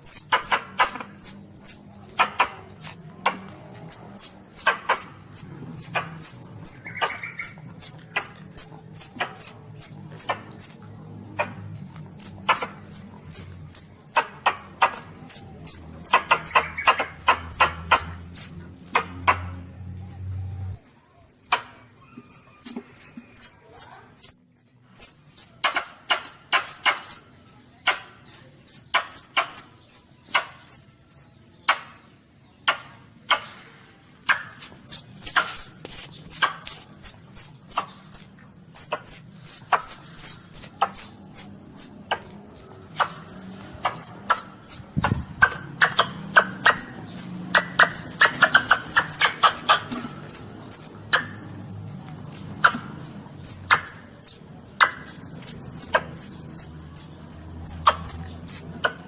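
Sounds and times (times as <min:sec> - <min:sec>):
baby civet high squeaks: 0:00.0 - 0:10.8, 0:11.4 - 0:18.6, 0:22.0 - 0:31.3, 0:34.6 - 0:51.4, 0:52.2 - 0:59.0.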